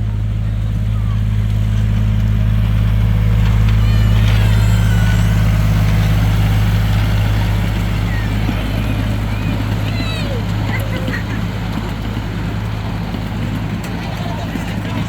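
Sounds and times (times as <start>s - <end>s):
small train engine droning: 0.0s - 15.0s.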